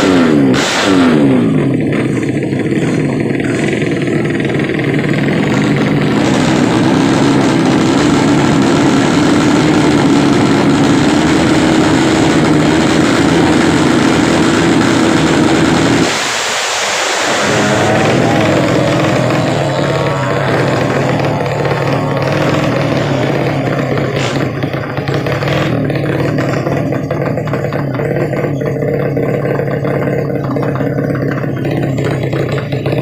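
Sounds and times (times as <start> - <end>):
motorcycle engine running loud: 0.0 - 33.0.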